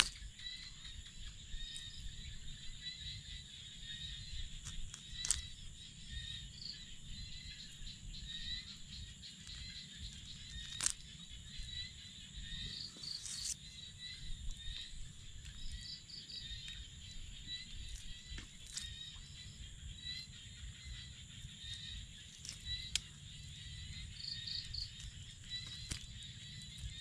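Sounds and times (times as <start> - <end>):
high insect drone: 0.0 - 27.0
short chirping calls: 0.0 - 27.0.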